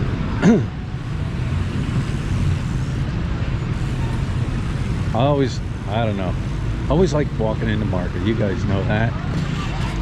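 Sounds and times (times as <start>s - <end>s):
rumble of passing vehicles: 0.0s - 10.0s.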